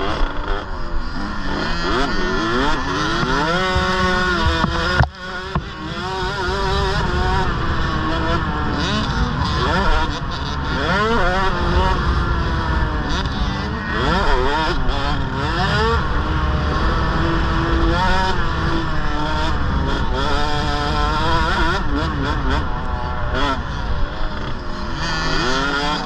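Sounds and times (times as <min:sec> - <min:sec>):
two-stroke motorbike engine revving: 0:00.0 - 0:26.0.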